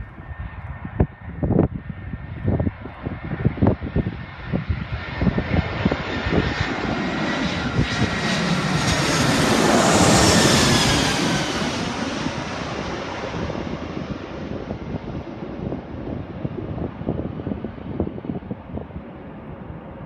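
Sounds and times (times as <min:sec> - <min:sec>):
jet engines passing close by: 0:00.0 - 0:20.0
wind buffeting microphone: 0:00.0 - 0:20.0.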